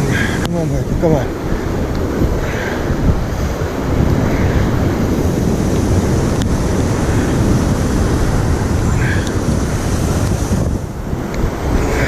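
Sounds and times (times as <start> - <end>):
surf breaking on rocks: 0.0 - 12.0
wind buffeting microphone: 0.0 - 12.0.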